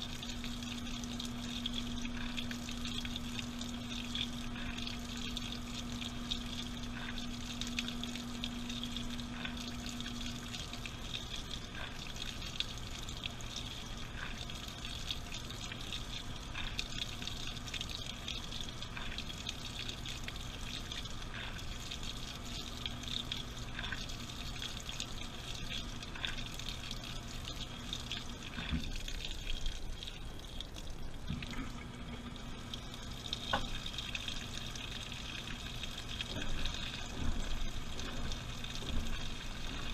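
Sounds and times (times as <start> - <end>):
low machine hum: 0.0 - 39.9
water splashing in washing machine: 0.0 - 39.9.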